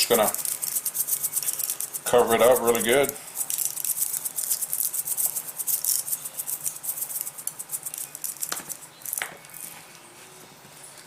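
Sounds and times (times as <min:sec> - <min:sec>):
seasoning shaker rattling: 0:00.0 - 0:09.7.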